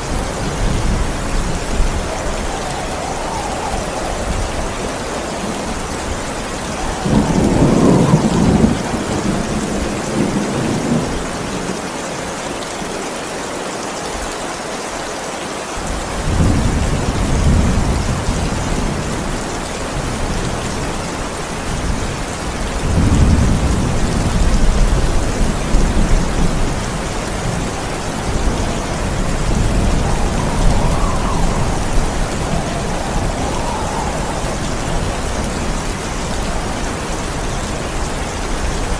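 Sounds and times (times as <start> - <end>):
thunder rumbling: 0.0 - 11.9, 15.8 - 38.9
heavy rain falling: 0.0 - 38.9.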